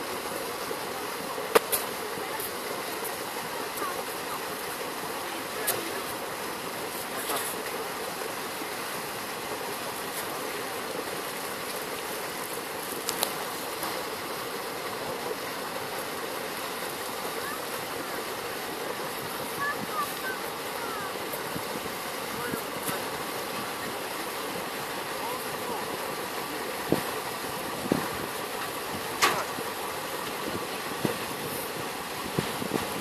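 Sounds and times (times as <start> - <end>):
outdoor background rush: 0.0 - 33.0.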